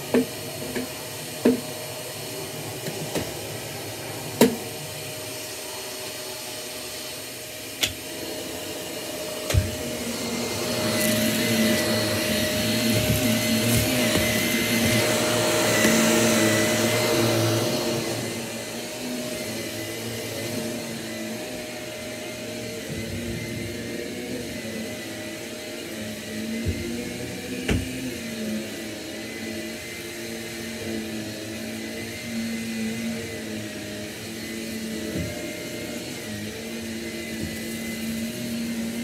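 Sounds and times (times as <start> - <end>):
vacuum cleaner running on carpet: 0.0 - 39.0.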